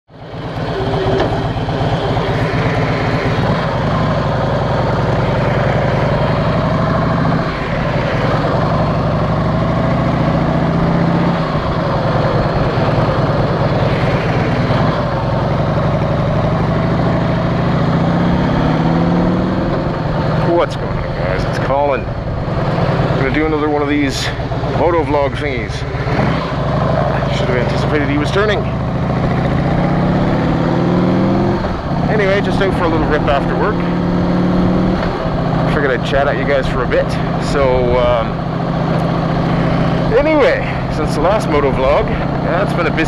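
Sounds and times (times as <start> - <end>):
motorcycle engine running: 0.1 - 43.0.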